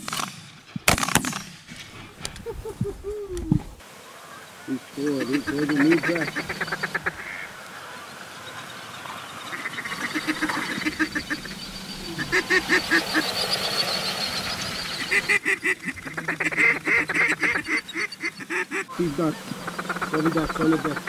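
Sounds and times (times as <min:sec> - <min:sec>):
geese honking: 0:03.9 - 0:21.0
ducks quacking: 0:04.0 - 0:21.0.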